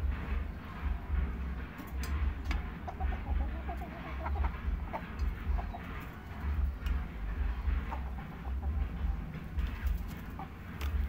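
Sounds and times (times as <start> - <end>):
chickens clucking: 0.0 - 11.0
low rumble: 0.0 - 11.0
beaks tapping on metal bowls: 1.7 - 11.0.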